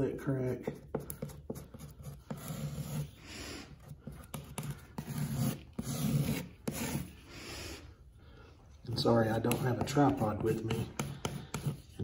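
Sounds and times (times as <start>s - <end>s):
putty knife scraping wall: 0.7s - 7.2s, 8.9s - 12.0s.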